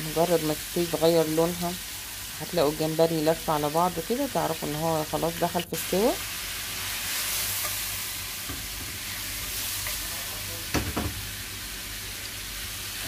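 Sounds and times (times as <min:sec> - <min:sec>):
seafood sizzling in oil: 0:00.0 - 0:13.0.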